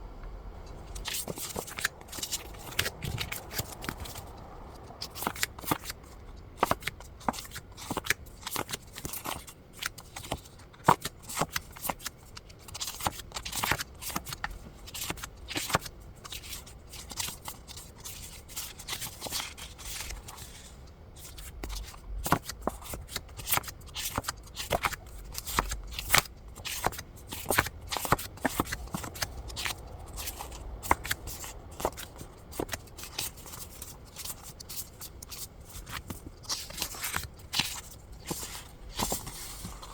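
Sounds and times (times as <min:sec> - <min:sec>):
paper rustling and crinkling: 0:06.6 - 0:39.9.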